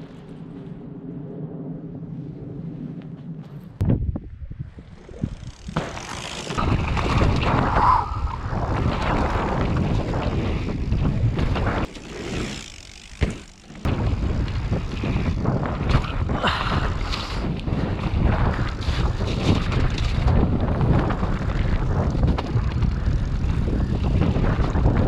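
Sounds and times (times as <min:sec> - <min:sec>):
wind buffeting microphone: 0:00.0 - 0:05.9, 0:06.5 - 0:11.9, 0:13.8 - 0:25.0
bike tyre noise: 0:02.0 - 0:25.0
bike knocking and rattling: 0:04.9 - 0:25.0.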